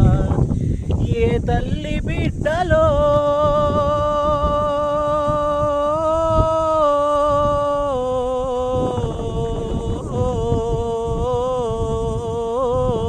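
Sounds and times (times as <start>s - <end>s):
person singing a long note: 0.0s - 13.0s
wind rumble on microphone: 0.0s - 13.0s.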